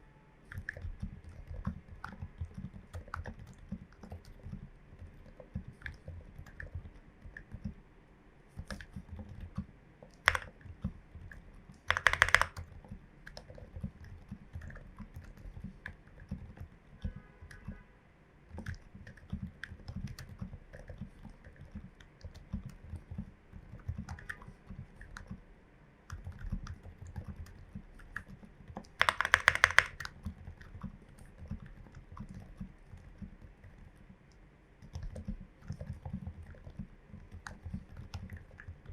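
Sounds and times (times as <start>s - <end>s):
rapid keyboard clatter: 0.5s - 7.8s, 8.6s - 17.8s, 18.5s - 25.4s, 26.1s - 38.9s
soft keyboard keystrokes: 0.5s - 7.8s, 8.5s - 17.8s, 18.5s - 25.4s, 26.1s - 38.9s.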